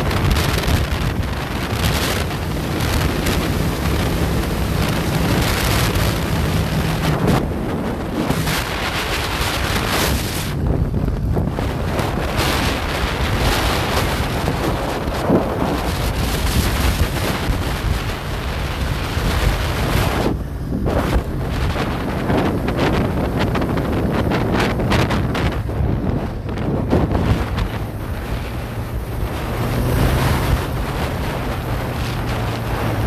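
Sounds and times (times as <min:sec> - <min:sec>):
motorcycle engine: 0:00.0 - 0:33.0
road rumble: 0:00.0 - 0:33.0
wind buffeting microphone: 0:00.0 - 0:33.0.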